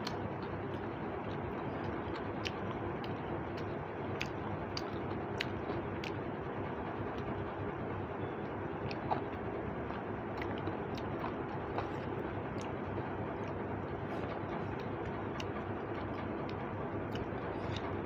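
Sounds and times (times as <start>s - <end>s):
chewing: 0.0s - 6.3s, 8.2s - 18.0s
steady background noise: 0.0s - 18.0s.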